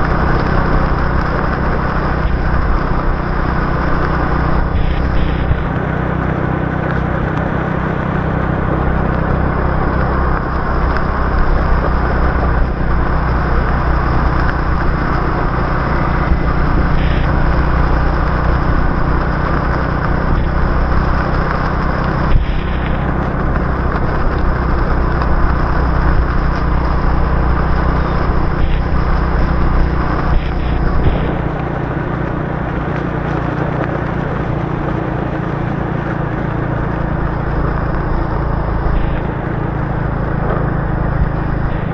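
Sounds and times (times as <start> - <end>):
motorbike engine running: 0.0 - 41.9
road and wind noise: 0.0 - 41.9.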